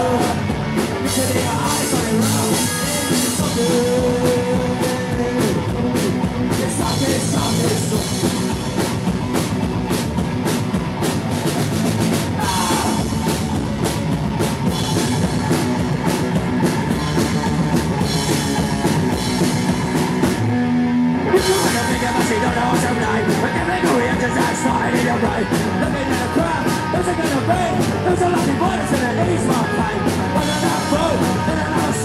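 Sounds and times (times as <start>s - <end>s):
rock band playing live: 0.0s - 32.0s.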